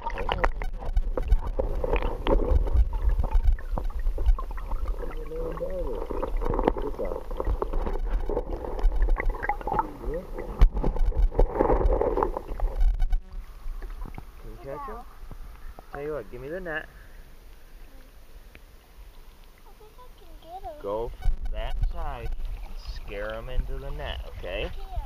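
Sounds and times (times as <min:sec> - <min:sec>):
low underwater rumble: 0:00.0 - 0:15.9, 0:20.7 - 0:25.0
underwater gurgling: 0:00.0 - 0:25.0.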